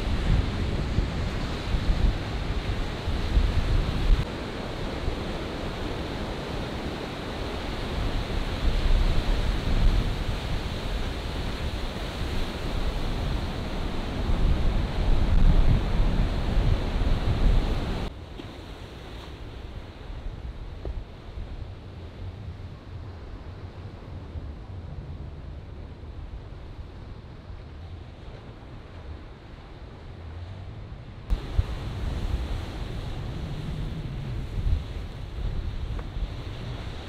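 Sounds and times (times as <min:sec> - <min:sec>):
ocean waves breaking: 0:00.0 - 0:37.0
wind buffeting microphone: 0:00.0 - 0:37.0.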